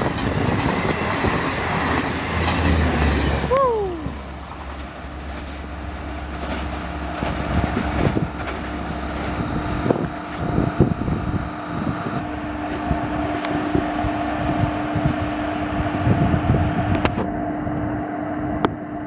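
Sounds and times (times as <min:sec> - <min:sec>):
steady hum: 0:00.0 - 0:19.0
train coaches running past: 0:00.0 - 0:19.0.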